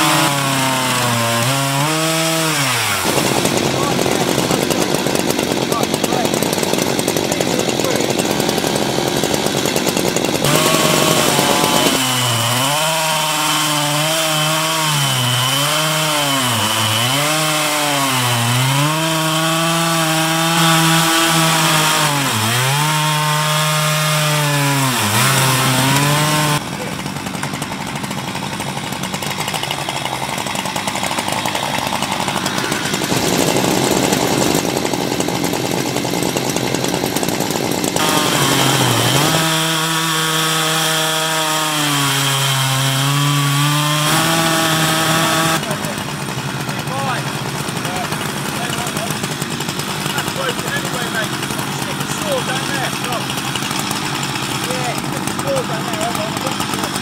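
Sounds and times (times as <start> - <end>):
chainsaws cutting a log: 0.0 - 57.0.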